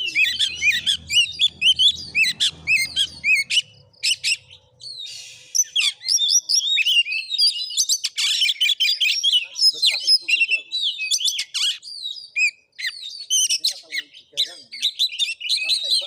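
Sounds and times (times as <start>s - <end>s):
bird singing whistled notes: 0.0s - 16.0s.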